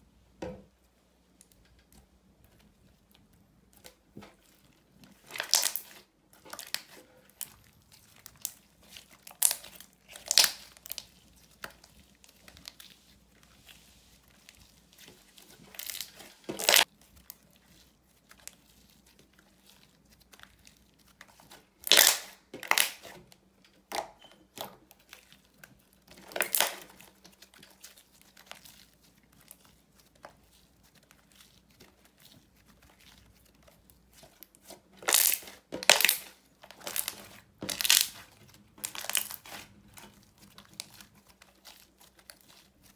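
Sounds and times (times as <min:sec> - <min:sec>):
sticky slime stretching: 0:01.4 - 0:42.9.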